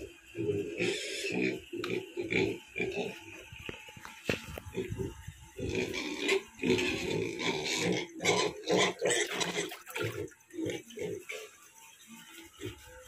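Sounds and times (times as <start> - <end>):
pigs grunting and calling: 0.0 - 3.7, 4.5 - 12.9.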